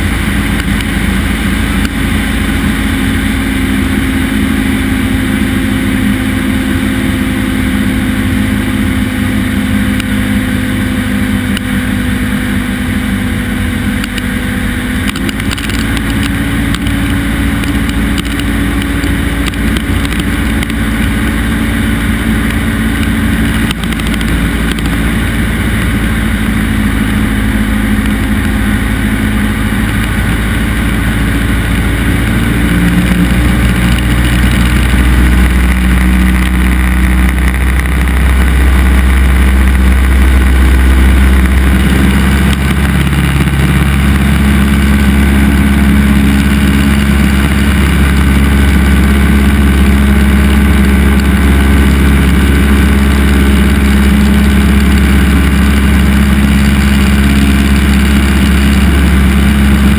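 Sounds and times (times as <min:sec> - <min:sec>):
airplane engine drone in cabin: 0:00.0 - 0:59.9
rushing air: 0:00.0 - 0:59.9.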